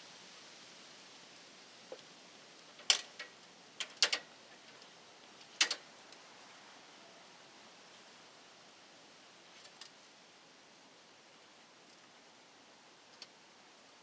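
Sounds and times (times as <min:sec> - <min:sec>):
faint room noise: 0:00.0 - 0:14.0.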